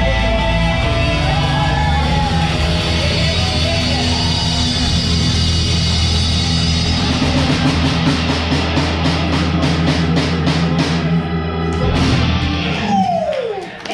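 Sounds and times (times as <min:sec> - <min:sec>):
blues rock band playing: 0:00.0 - 0:13.3.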